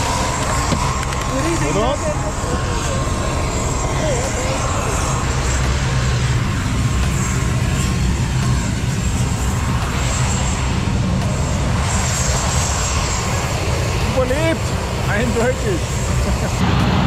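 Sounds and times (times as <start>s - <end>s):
ultralight aircraft engine running: 0.0s - 17.0s.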